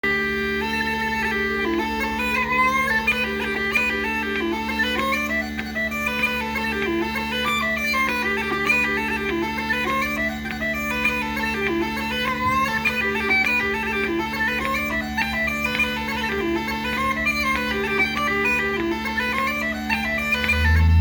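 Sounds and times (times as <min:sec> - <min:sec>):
bagpipe drones: 0:00.0 - 0:21.0
bagpipes playing a melody: 0:00.0 - 0:21.0.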